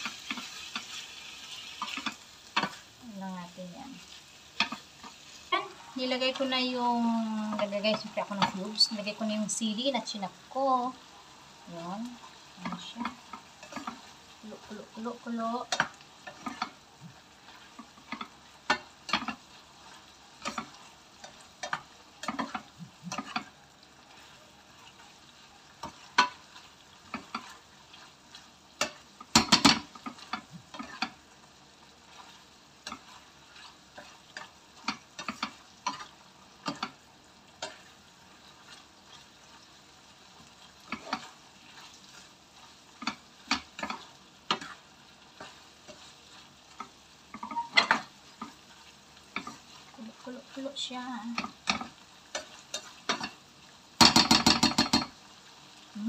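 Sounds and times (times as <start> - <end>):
spatula scraping frying pan: 0.0 - 10.2, 11.8 - 55.6
faint sizzle: 0.0 - 56.0.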